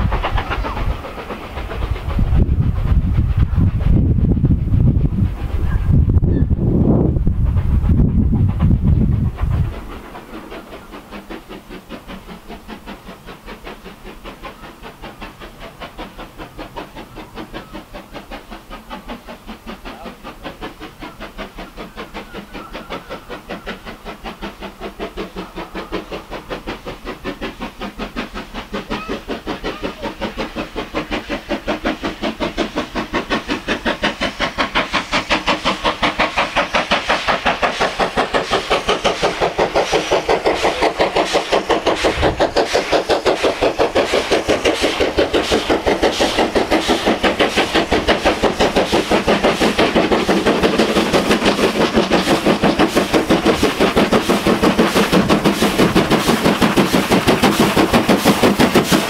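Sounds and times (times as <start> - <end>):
steam locomotive exhaust beating: 0.0 - 59.0.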